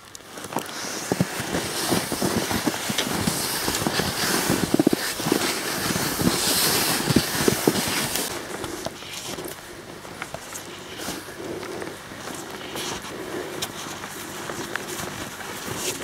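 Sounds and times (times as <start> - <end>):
skis swishing through snow: 0.3 - 9.6, 10.2 - 16.0
jacket fabric rustling: 0.3 - 16.0.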